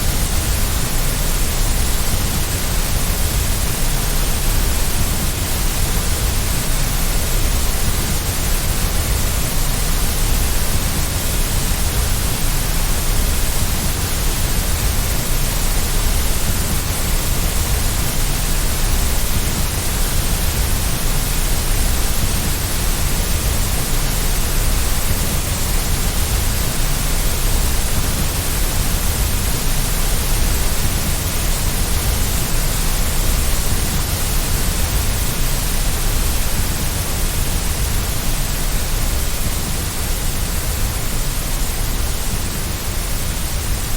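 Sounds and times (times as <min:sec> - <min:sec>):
white noise hiss: 0:00.0 - 0:43.9.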